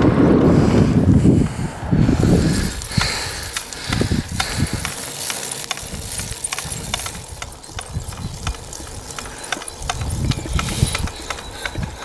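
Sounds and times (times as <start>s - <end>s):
wind buffeting microphone: 0.0s - 12.0s
bicycle ticking and clicking: 1.5s - 12.0s.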